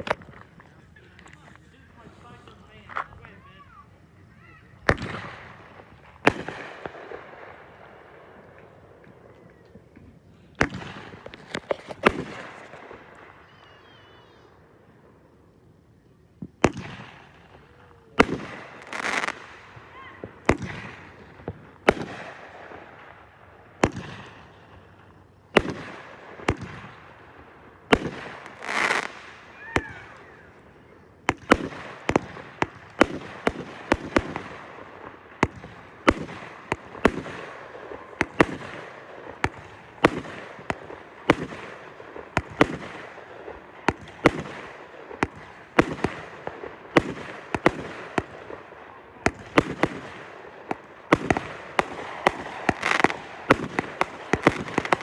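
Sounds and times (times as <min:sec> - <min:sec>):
fireworks banging: 0:00.0 - 0:14.4, 0:16.4 - 0:55.0
fireworks crackling: 0:00.0 - 0:55.0.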